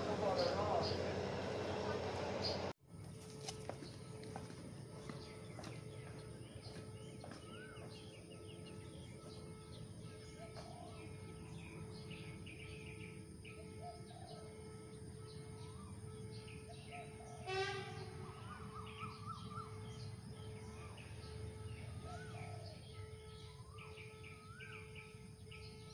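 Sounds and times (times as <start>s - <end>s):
birds chirping and whistling: 5.0s - 25.9s.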